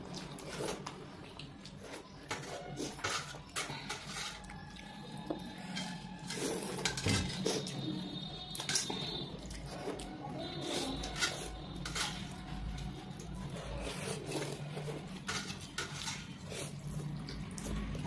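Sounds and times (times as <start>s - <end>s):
people slurping and chewing noodles: 0.0s - 18.0s
chopsticks scraping steel plates: 1.9s - 16.8s.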